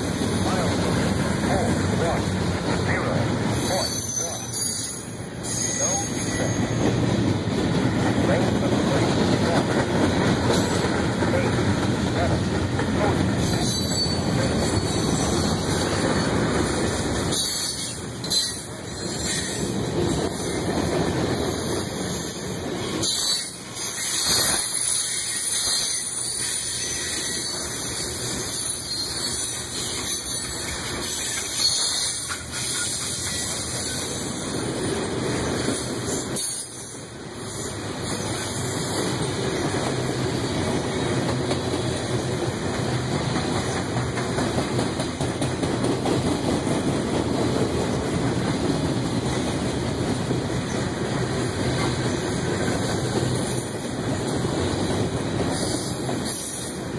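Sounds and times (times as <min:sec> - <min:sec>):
steel wheels on rails: 0:00.0 - 0:56.9.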